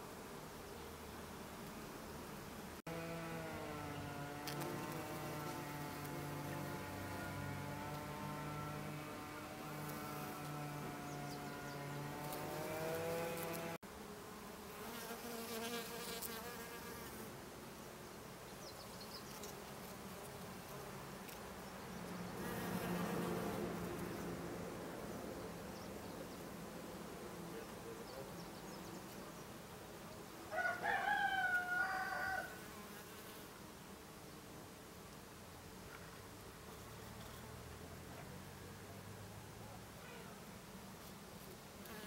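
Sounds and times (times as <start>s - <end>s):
honeybees buzzing: 0.0s - 38.1s.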